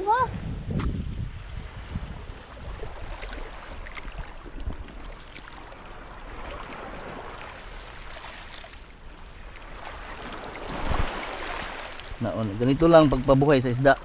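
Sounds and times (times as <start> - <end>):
shallow water sloshing: 1.4 - 14.0
small water splashes: 2.3 - 14.0.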